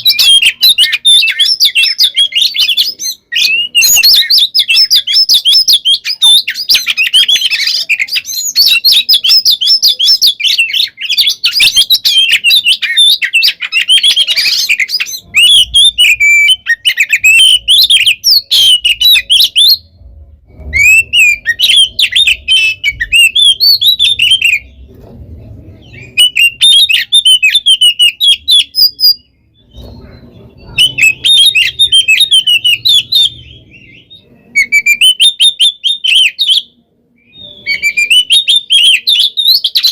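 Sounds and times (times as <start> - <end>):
bird singing rapid chattering song: 0.0 - 25.0, 25.8 - 39.9.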